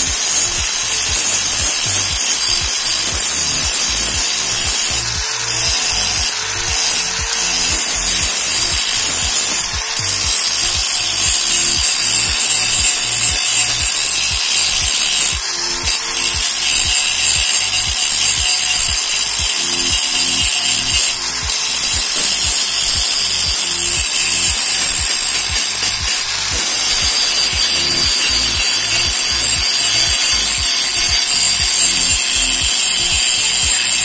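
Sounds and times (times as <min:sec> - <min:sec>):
angle grinder cutting metal: 0:00.0 - 0:34.0.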